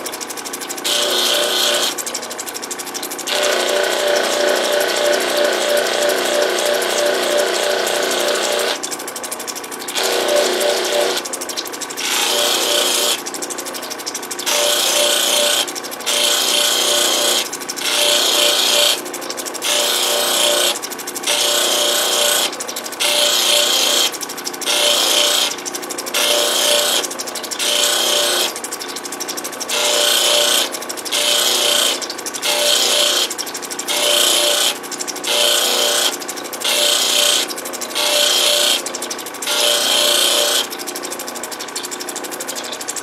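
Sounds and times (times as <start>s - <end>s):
grinding wheel motor running: 0.0s - 43.0s
stone hissing on spinning wheel: 0.0s - 43.0s.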